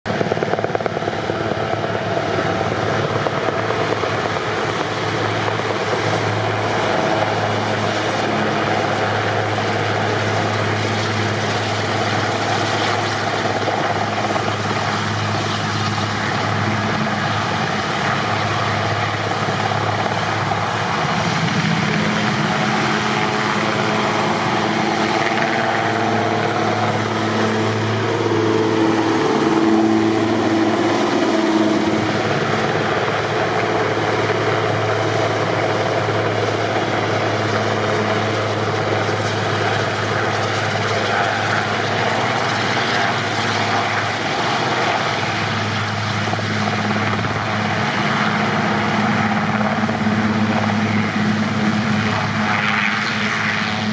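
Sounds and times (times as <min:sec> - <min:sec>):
helicopter rotor noise: 0:00.0 - 0:53.9
high turbine whine: 0:00.1 - 0:53.9.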